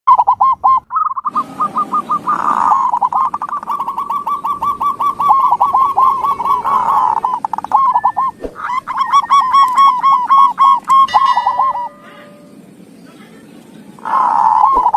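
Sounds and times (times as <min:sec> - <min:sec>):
doves cooing: 0:00.1 - 0:14.9.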